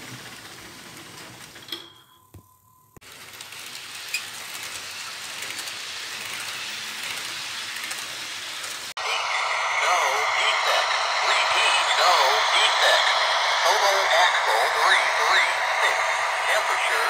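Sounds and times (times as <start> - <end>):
model train wheels hissing on rail: 3.1 - 17.0.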